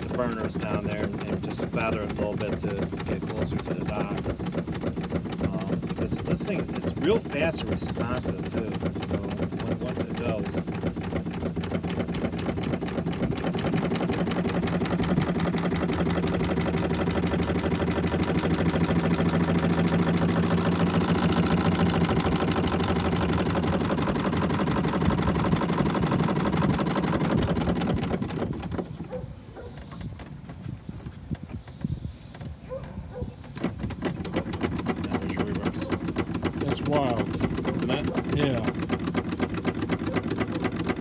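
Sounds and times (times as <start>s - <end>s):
steam engine running fast: 0.0s - 29.1s, 33.4s - 41.0s.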